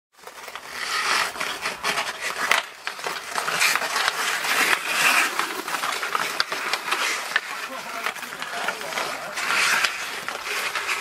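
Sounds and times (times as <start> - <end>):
hockey sticks clacking: 0.2 - 11.0
skate blades scraping ice: 0.2 - 11.0.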